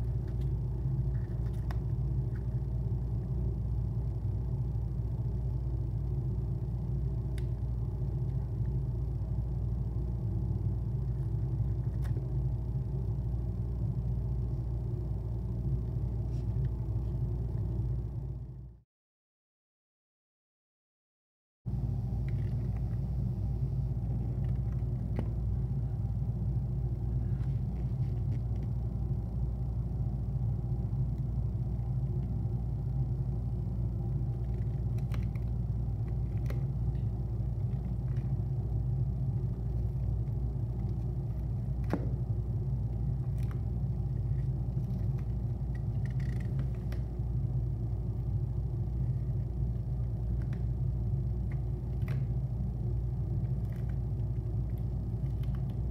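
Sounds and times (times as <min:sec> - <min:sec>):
steady low rumble: 0:00.0 - 0:18.8, 0:21.7 - 0:55.9.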